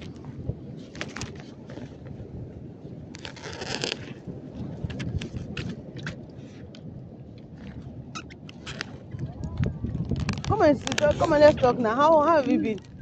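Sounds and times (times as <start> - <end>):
rustling and scraping: 0.0 - 2.2, 3.1 - 6.8, 7.6 - 13.0
microphone handling rumble: 0.0 - 13.0.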